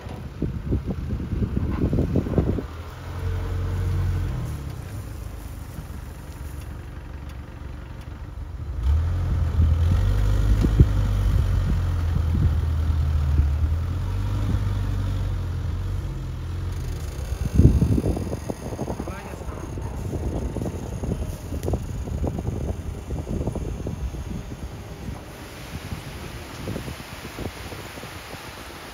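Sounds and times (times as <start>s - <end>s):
engine running: 0.0s - 28.9s.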